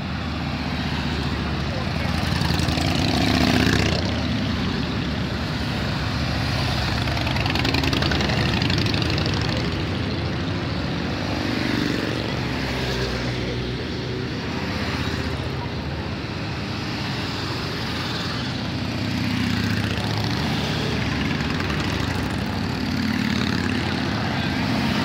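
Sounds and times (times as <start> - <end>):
motorcycles passing by: 0.0 - 25.0.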